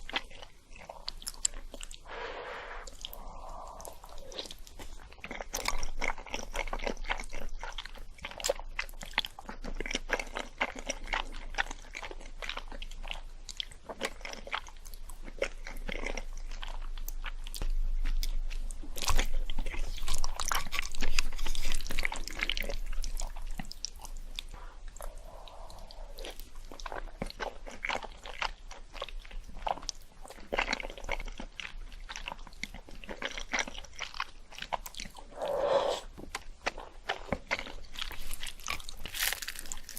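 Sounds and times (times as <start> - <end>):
person crunching sweets: 0.0 - 39.9.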